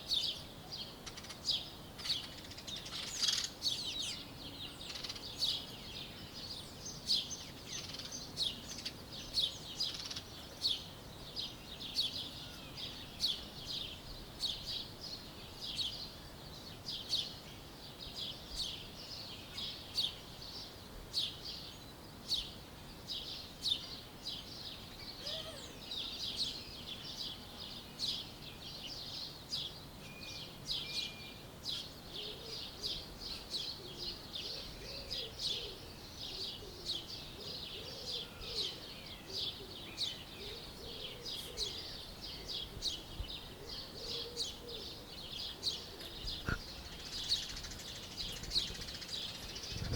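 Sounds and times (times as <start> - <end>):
faint background hiss: 0.0 - 49.9
songbirds chirping: 0.0 - 49.9.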